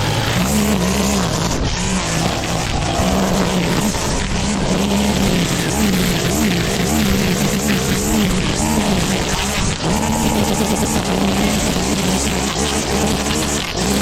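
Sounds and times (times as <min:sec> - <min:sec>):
grass cutting rush: 0:00.0 - 0:14.0
lawn mower engine under load: 0:00.0 - 0:14.0.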